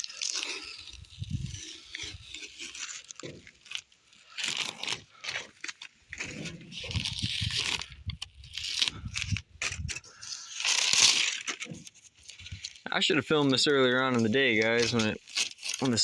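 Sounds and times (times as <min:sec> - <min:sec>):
masking paper peeled and crumpled: 0:00.0 - 0:16.0.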